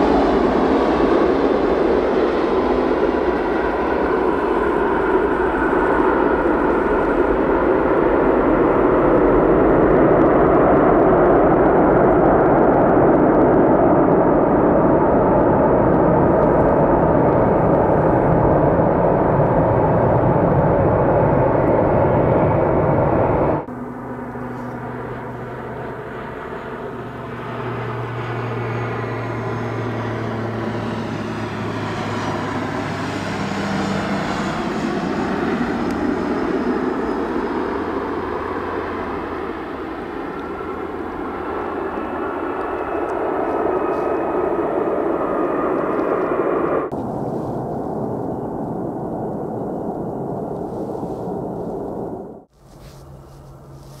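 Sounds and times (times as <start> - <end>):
jet airliner engines passing: 0.0 - 54.0.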